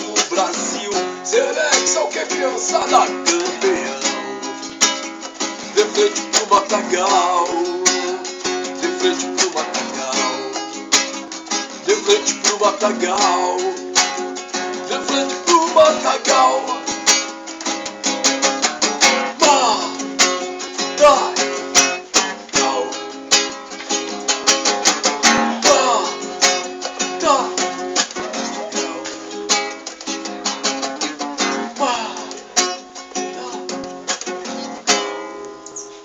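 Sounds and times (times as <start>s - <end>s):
guitar strummed: 0.0s - 36.0s.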